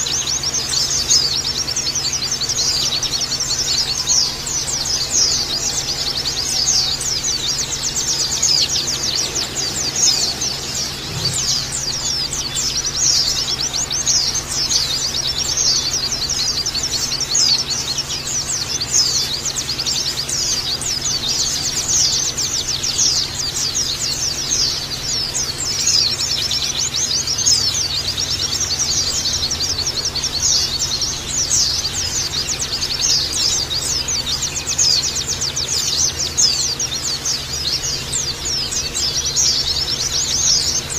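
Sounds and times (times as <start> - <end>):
flock of birds twittering: 0.0 - 40.9.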